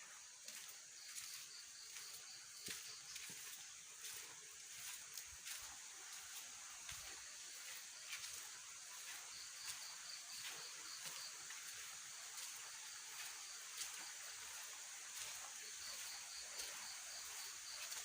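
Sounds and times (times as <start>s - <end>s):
cricket chirping: 0.0s - 18.0s
high-pitched insect hum: 0.0s - 18.0s.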